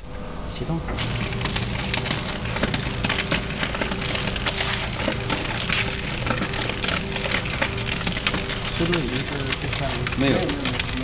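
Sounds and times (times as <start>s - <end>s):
high steady machine whine: 0.0s - 11.0s
machine mechanical clatter: 0.9s - 11.0s.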